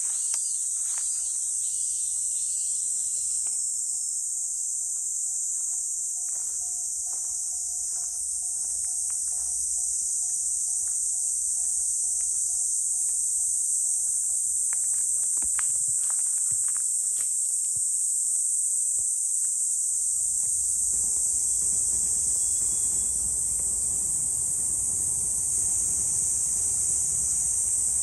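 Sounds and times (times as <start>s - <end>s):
cicadas singing: 0.0s - 28.0s.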